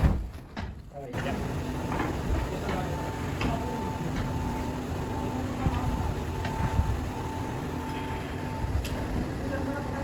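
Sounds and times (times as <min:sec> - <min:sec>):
workshop machinery whining: 0:00.0 - 0:10.0.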